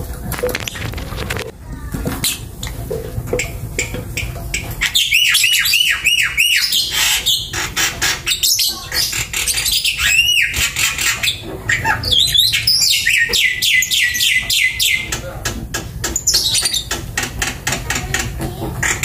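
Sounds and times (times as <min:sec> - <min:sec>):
lovebirds chattering: 0:03.4 - 0:19.0.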